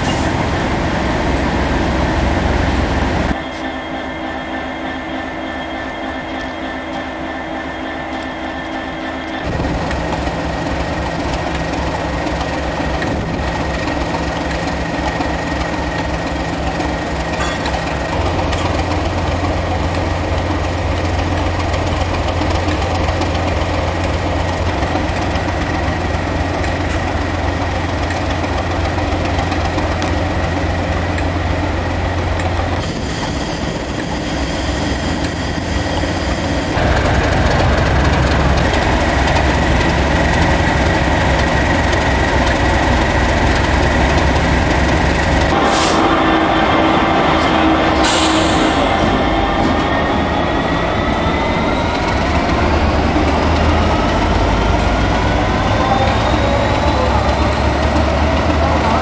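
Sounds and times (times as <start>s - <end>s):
train running mechanical drone: 0.0s - 59.0s.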